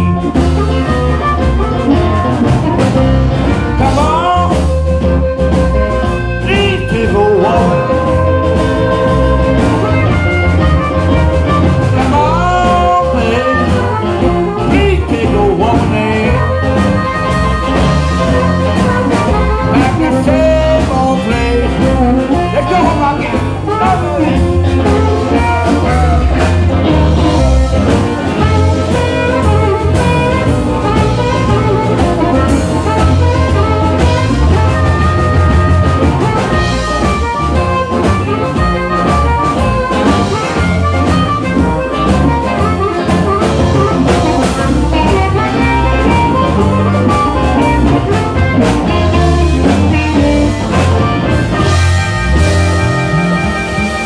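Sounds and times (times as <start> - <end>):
amplified harmonica: 0.0 - 54.0
electric blues band playing: 0.0 - 54.0.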